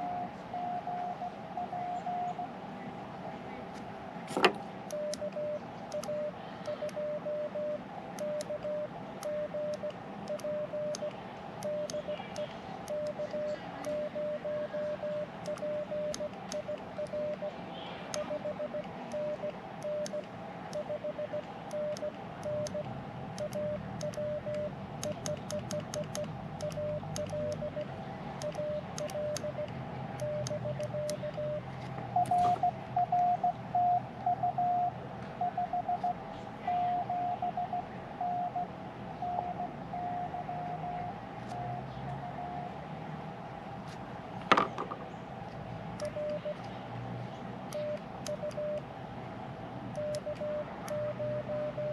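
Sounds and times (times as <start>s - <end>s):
morse code sidetone: 0.0s - 2.5s, 4.9s - 42.8s, 46.0s - 46.7s, 47.7s - 48.8s, 50.0s - 51.9s.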